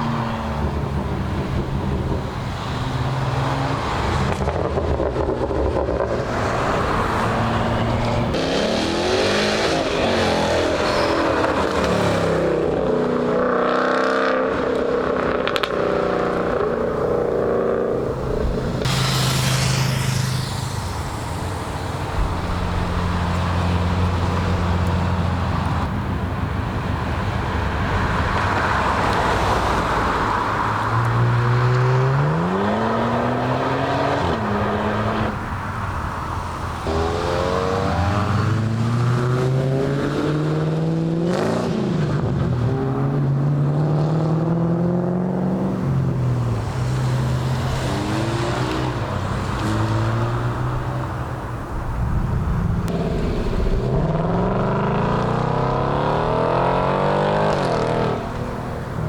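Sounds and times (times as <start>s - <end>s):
car engines running: 0.0s - 59.0s
car accelerating through gears: 2.9s - 25.9s, 28.3s - 35.4s, 36.8s - 51.2s, 52.8s - 59.0s.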